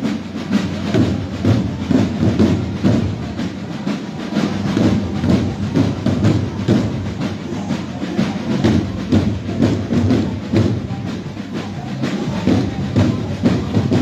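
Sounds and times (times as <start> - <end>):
marching drums beat: 0.0 - 14.0.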